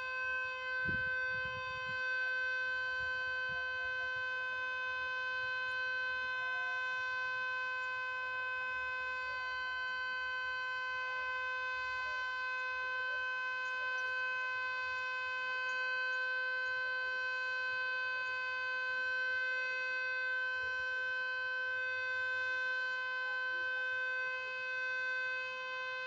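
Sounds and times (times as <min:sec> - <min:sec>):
warning siren steady tone: 0:00.0 - 0:26.0.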